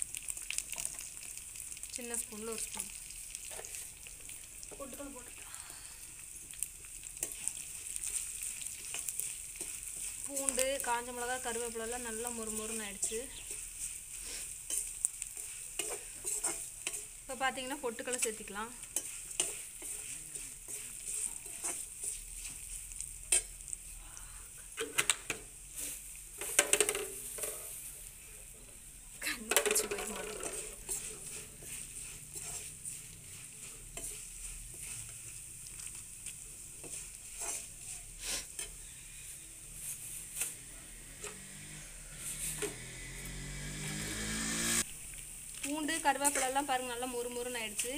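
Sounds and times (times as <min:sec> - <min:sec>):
spices sizzling in hot oil: 0:00.0 - 0:47.9
metal spoon scraping a pan: 0:00.3 - 0:05.4, 0:06.5 - 0:23.8, 0:25.8 - 0:27.9, 0:29.4 - 0:44.9, 0:45.6 - 0:47.9.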